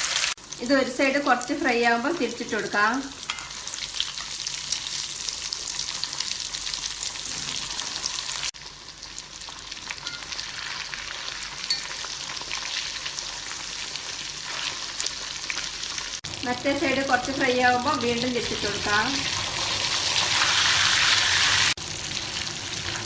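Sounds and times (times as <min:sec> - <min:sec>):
fish deep-frying in oil: 0:00.0 - 0:23.0.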